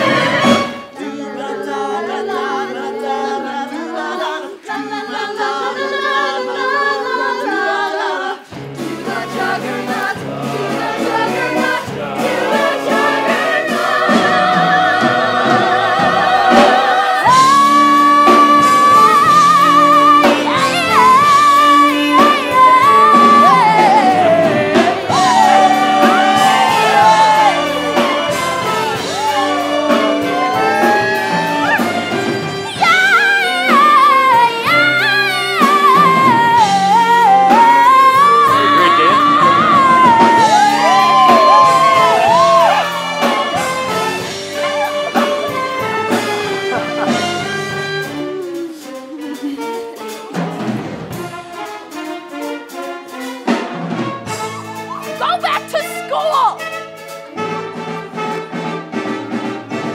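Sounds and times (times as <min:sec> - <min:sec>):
band playing: 0:00.0 - 0:02.6, 0:08.4 - 0:59.9
cast singing in harmony: 0:00.0 - 0:49.4.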